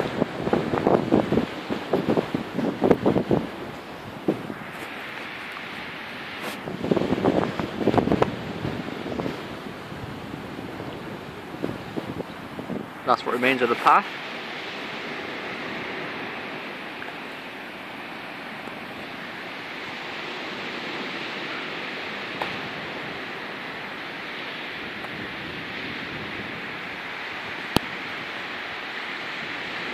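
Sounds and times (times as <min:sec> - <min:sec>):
sea surf on stony shore: 0:00.0 - 0:29.9.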